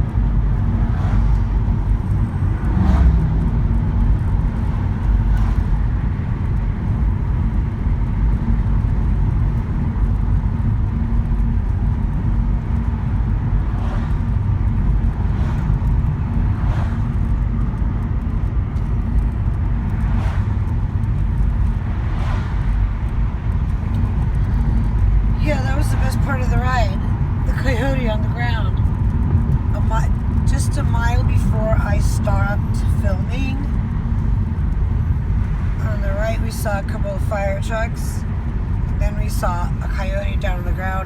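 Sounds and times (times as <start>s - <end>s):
car engine and road noise: 0.0s - 41.0s.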